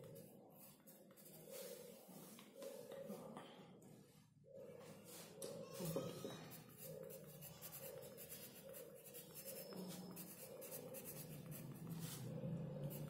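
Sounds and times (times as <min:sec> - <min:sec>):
pencil scratching on paper: 0:00.0 - 0:02.9, 0:05.2 - 0:13.0.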